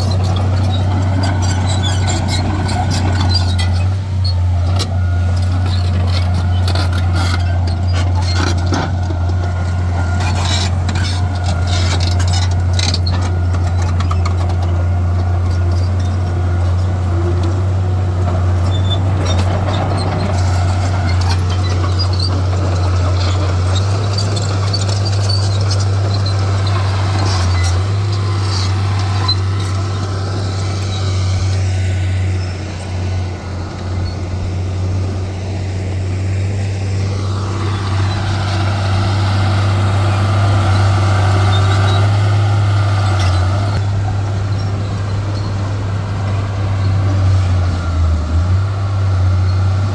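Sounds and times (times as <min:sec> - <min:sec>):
diesel engine drone: 0:00.0 - 0:49.9.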